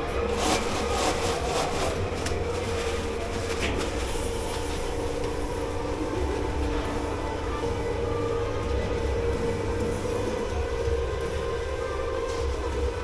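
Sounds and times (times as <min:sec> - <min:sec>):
dishwashing machine drone: 0:00.0 - 0:13.0.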